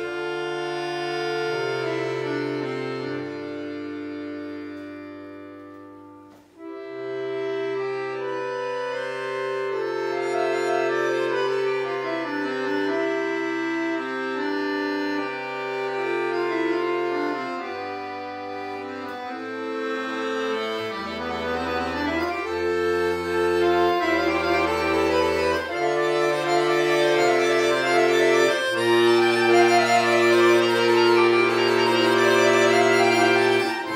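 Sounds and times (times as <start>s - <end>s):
button accordion playing chords: 0.0s - 33.9s.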